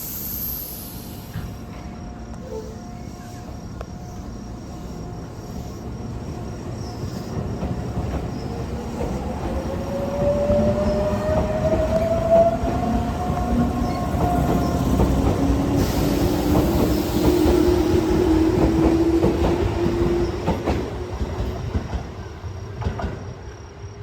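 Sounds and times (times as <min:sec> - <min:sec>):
train rolling noise: 0:00.0 - 0:24.0.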